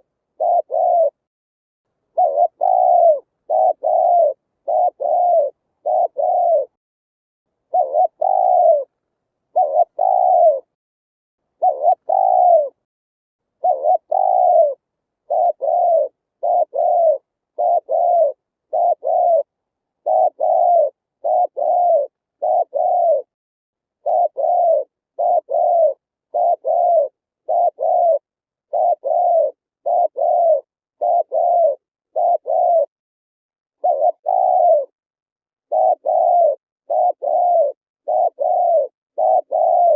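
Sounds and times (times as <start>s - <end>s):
dove cooing: 0.0s - 1.2s, 2.1s - 6.8s, 7.6s - 10.8s, 11.6s - 12.8s, 13.6s - 23.4s, 24.0s - 32.9s, 33.8s - 35.0s, 35.6s - 39.9s.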